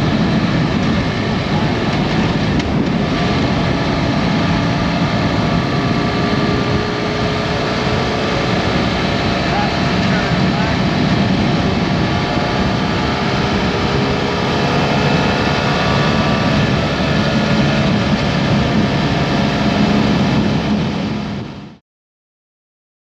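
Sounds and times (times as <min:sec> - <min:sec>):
motorcycle engine running: 0:00.0 - 0:21.7
wind rush: 0:00.0 - 0:21.8.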